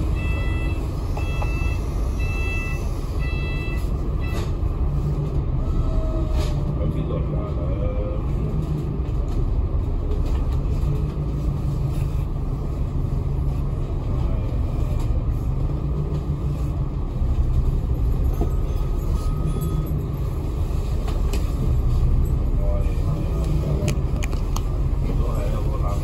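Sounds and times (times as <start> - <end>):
bus engine hum: 0.0 - 26.0
low road rumble: 0.0 - 26.0.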